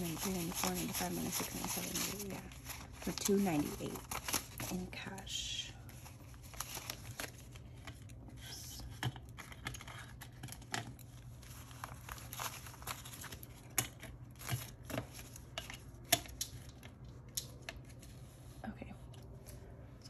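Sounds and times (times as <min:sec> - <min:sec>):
paper bills rustling and crinkling: 0:00.0 - 0:08.3, 0:09.0 - 0:18.3.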